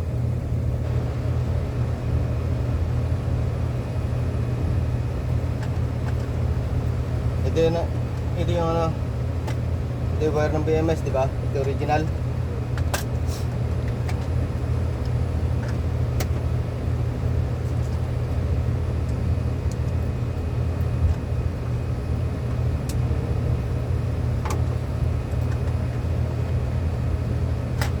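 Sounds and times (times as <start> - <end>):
low machine rumble: 0.0 - 28.0.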